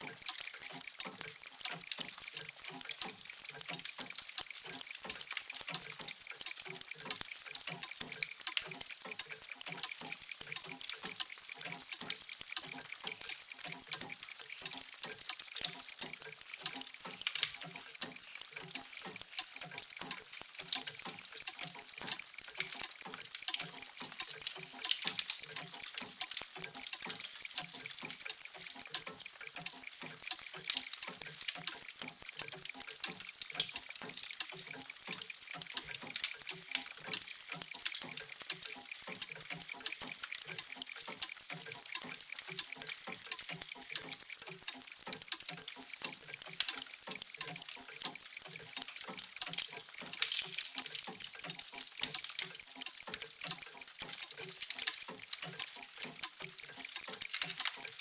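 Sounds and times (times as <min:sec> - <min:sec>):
mechanical clocks ticking: 0:00.0 - 0:58.0.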